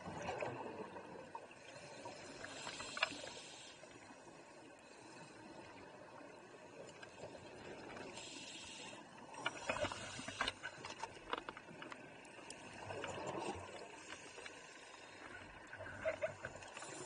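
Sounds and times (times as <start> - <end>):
underwater bubbles: 0.0 - 17.0.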